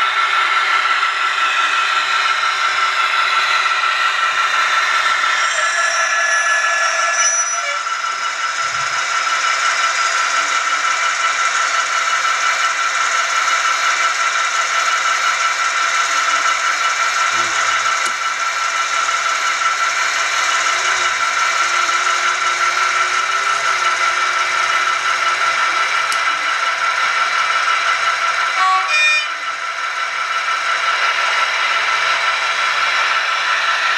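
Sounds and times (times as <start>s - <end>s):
model locomotive engine sound: 0.0s - 33.9s.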